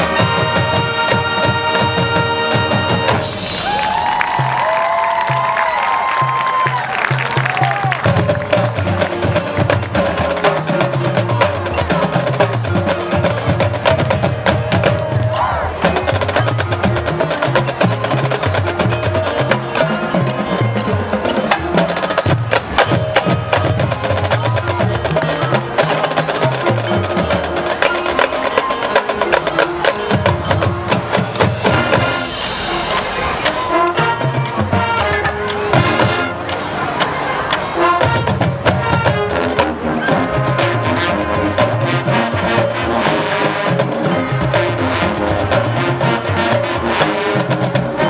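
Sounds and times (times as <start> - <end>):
drums: 0.0 - 48.0
mallet instruments: 0.0 - 48.0
marching band playing: 0.0 - 48.0.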